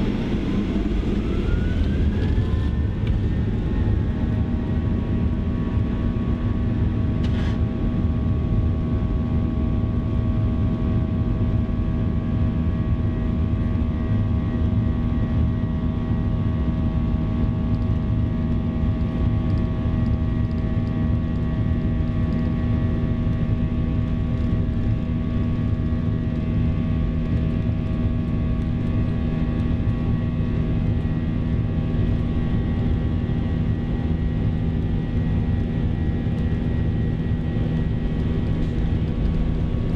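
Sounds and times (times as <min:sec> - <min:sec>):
airplane cabin rumble: 0:00.0 - 0:39.9
jet engine hum and whine: 0:00.0 - 0:39.9.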